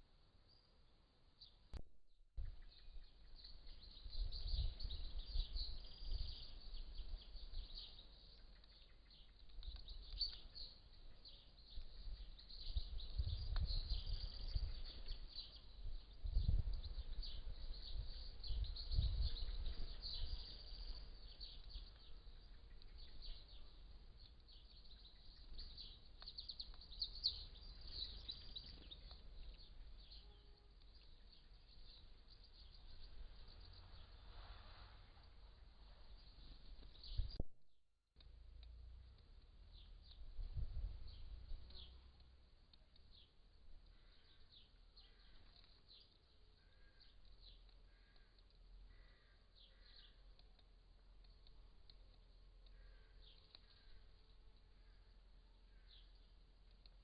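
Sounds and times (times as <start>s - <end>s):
birds chirping and twittering: 2.4s - 37.4s, 39.7s - 57.0s.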